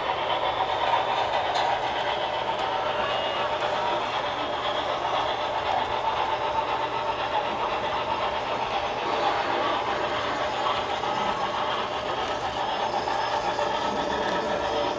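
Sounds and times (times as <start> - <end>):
model train wheels rolling: 0.0 - 14.9.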